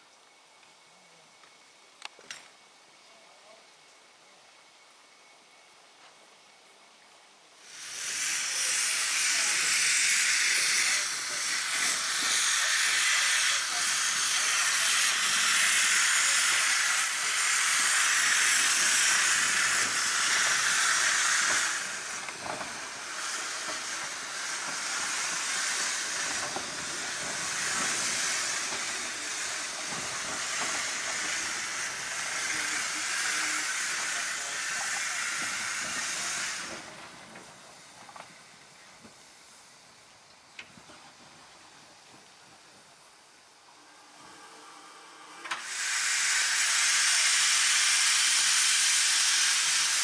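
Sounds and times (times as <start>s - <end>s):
steam locomotive hissing steam: 0.0s - 50.0s.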